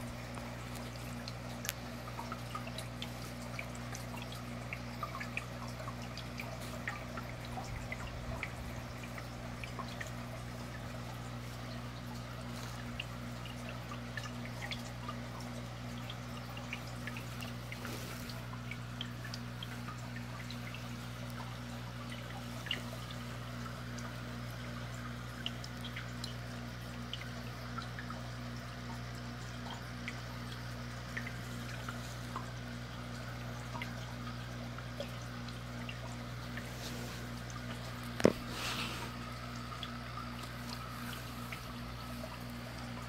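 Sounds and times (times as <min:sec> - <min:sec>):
aquarium air bubbles popping: 0:00.0 - 0:43.0
low equipment hum: 0:00.0 - 0:43.0.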